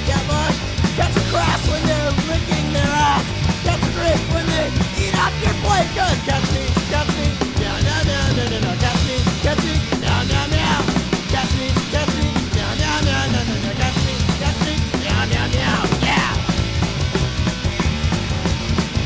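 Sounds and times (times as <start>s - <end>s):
drum kit: 0.0s - 19.0s
punk rock song: 0.0s - 19.0s.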